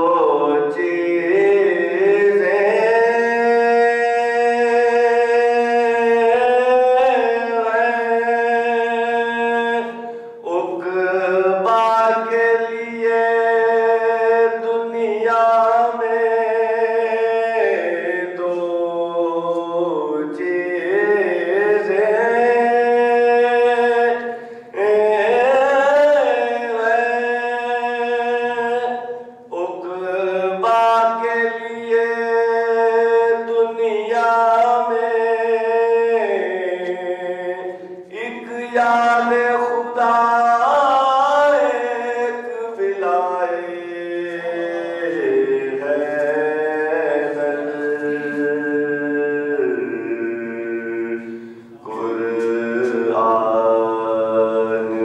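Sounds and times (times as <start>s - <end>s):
man chanting unaccompanied: 0.0s - 55.0s.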